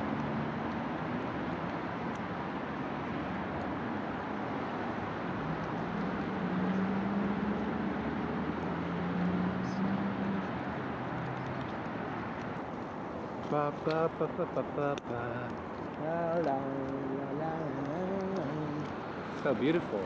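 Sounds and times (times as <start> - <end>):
distant city traffic: 0.0 - 20.0.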